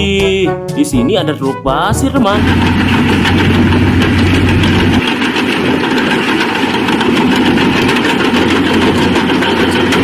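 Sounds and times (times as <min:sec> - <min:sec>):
heavy machinery engine rumbling: 0:01.9 - 0:10.0.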